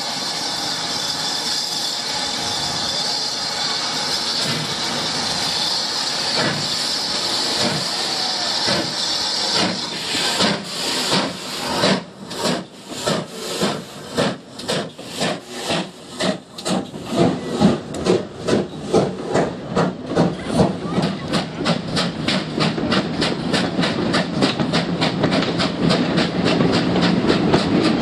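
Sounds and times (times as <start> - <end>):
steam hissing: 0.0 - 28.0
steam locomotive exhaust beats: 0.0 - 28.0.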